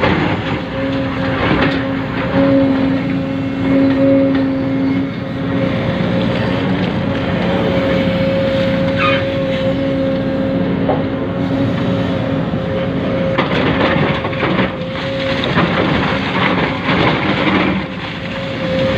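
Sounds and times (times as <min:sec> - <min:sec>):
electric motor and gear whine: 0:00.0 - 0:18.9.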